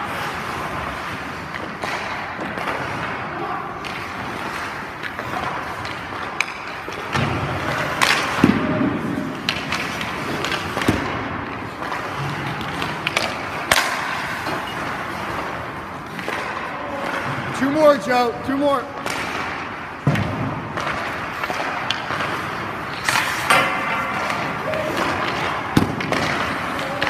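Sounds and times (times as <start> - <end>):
skates scraping on ice: 0.0 - 27.0.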